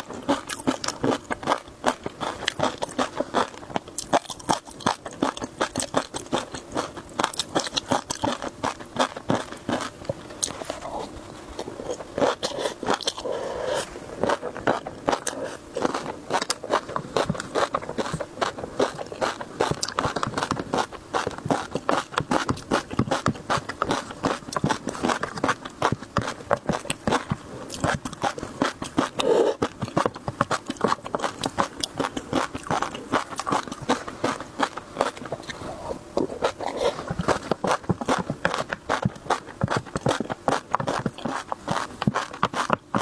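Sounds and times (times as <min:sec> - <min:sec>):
person chewing crunchy food: 0:00.0 - 0:43.0.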